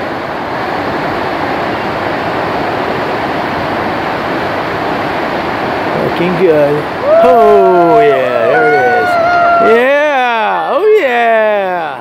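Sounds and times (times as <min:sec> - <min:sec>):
whitewater rapid rushing: 0:00.0 - 0:12.0.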